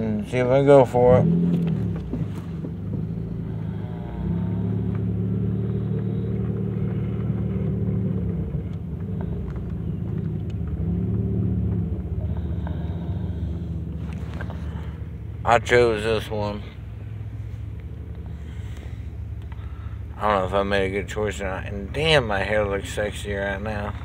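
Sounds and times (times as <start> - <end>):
car engine humming from inside: 0.0 - 24.0.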